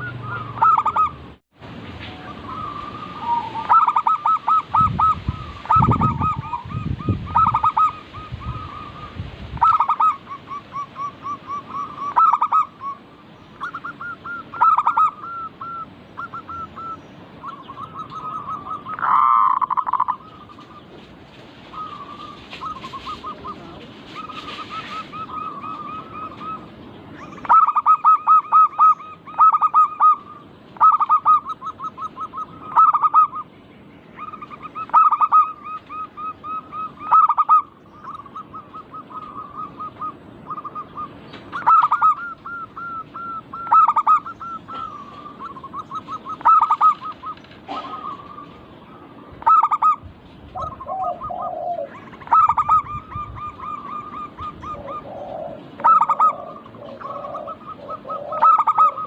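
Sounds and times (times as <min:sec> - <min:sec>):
doves cooing: 0:00.0 - 0:01.4, 0:02.2 - 0:33.5, 0:34.1 - 0:59.0
lower bird call: 0:00.0 - 0:59.0.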